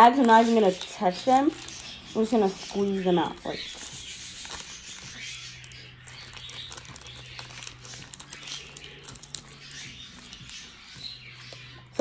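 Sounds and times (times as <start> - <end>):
plastic bag crinkling: 0.0 - 12.0
slime squelching: 0.0 - 12.0
small clicks and crackles: 0.0 - 12.0.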